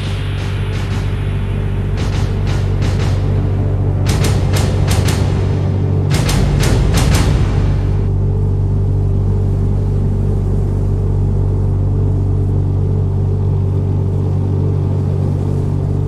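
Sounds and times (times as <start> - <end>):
deep engine drone: 0.0 - 16.0.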